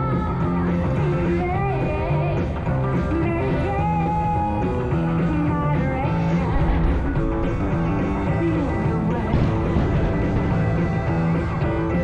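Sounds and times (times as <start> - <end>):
rock song with singing: 0.0 - 12.0.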